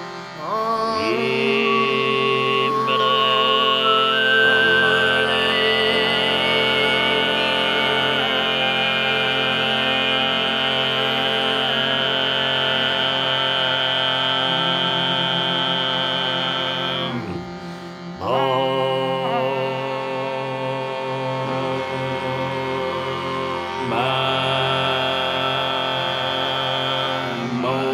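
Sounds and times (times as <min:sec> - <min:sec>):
overtone singing: 0:00.0 - 0:27.9.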